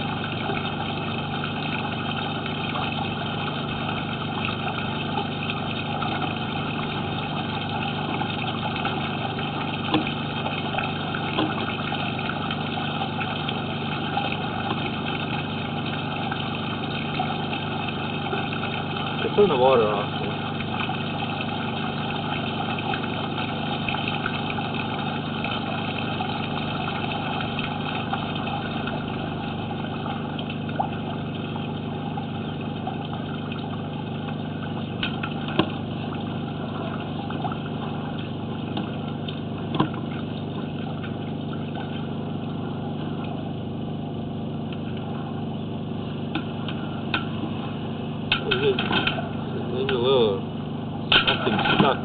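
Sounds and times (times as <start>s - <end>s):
machine humming: 0.0s - 52.0s.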